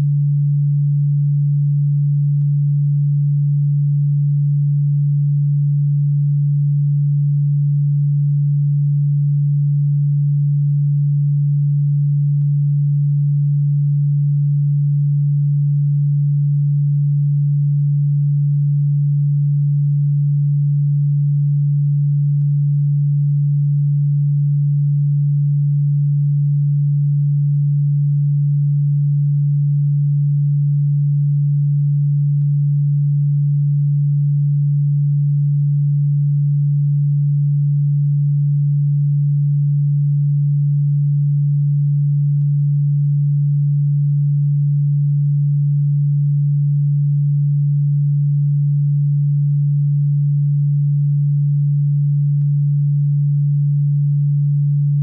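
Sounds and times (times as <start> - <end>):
low electronic sine tone: 0.0 - 55.0.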